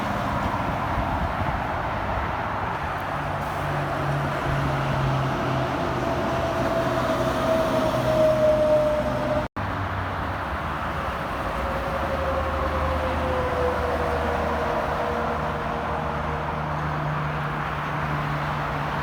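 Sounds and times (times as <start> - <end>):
passing truck whine: 0.0 - 19.0
traffic hum: 0.0 - 19.0.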